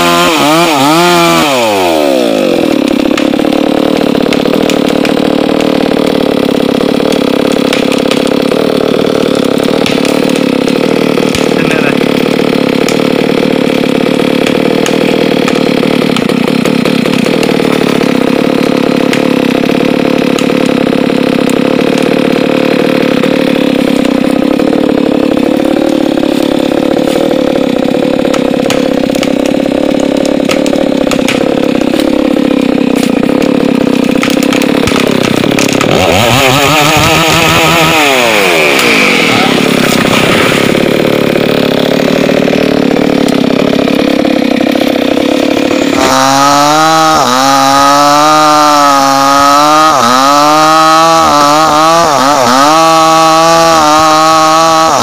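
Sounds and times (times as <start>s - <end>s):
chainsaw engine running: 0.0s - 55.0s.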